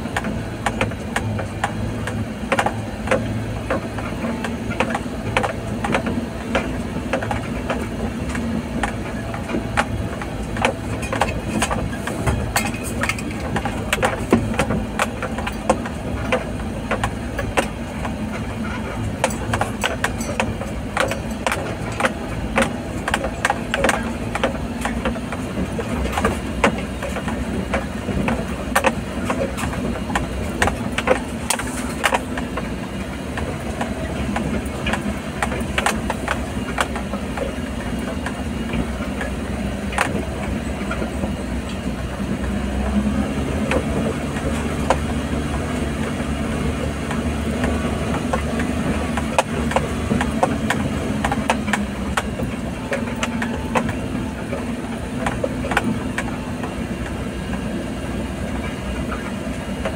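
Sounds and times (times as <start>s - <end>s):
body rattling clicks and knocks: 0.0s - 59.9s
vehicle engine running under load: 0.0s - 59.9s.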